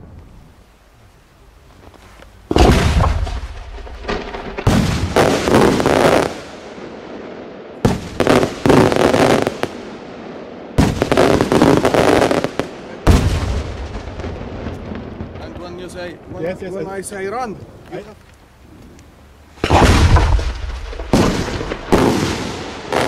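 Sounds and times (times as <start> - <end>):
fireworks crackling: 0.0 - 23.0
fireworks bangs: 2.5 - 18.9, 19.5 - 23.0.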